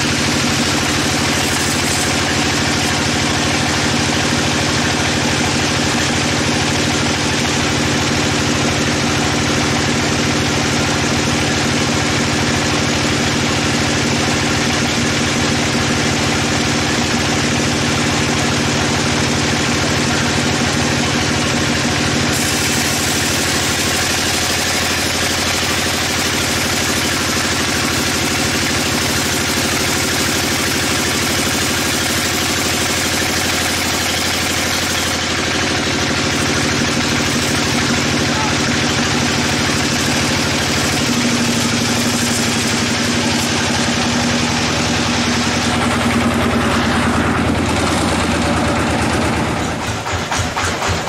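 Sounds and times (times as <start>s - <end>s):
band saw cutting log: 0.0s - 10.0s, 10.6s - 51.0s
machine drone: 0.0s - 51.0s.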